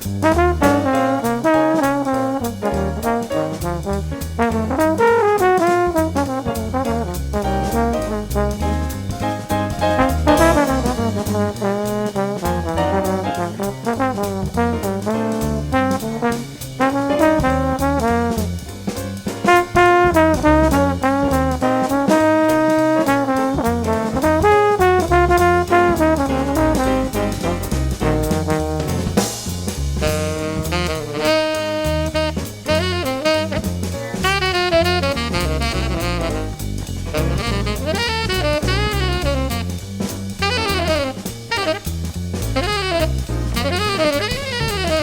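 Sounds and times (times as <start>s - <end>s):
jazz music with brass horns: 0.0s - 45.0s.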